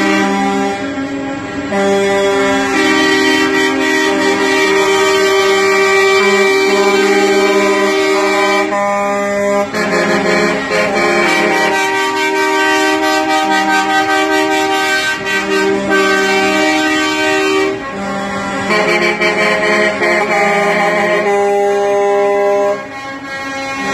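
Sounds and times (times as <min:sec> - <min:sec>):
truck air horns blaring: 0:00.0 - 0:23.9.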